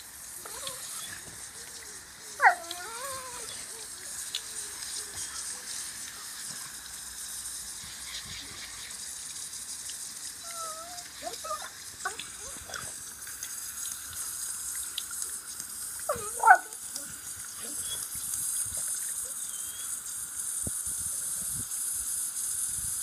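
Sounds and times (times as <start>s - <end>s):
garden hose spraying water: 0.0s - 23.0s.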